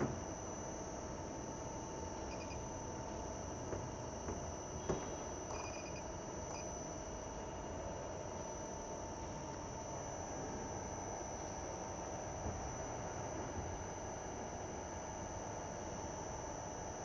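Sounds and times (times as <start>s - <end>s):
machining center hum and whine: 0.0s - 17.0s.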